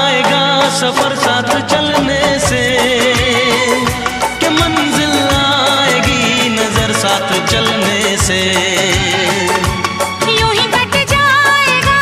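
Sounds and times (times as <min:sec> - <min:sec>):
steady drum beat: 0:00.0 - 0:12.0.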